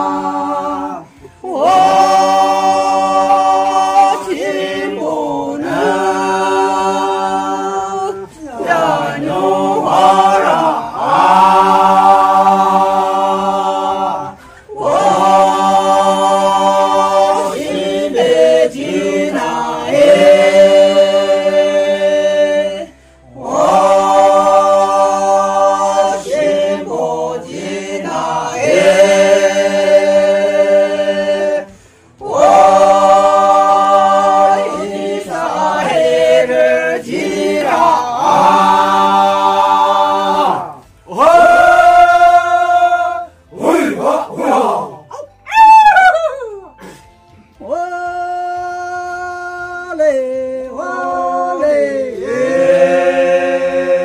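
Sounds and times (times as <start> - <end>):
person singing unaccompanied: 0.0 - 45.5.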